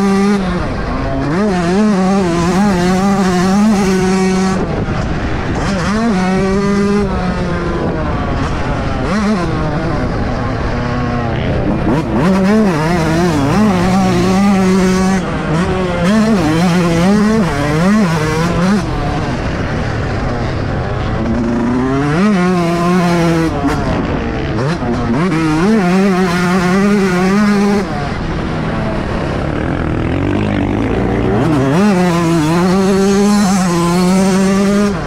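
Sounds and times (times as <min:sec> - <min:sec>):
two-stroke motorcycle engine revving: 0:00.0 - 0:35.0.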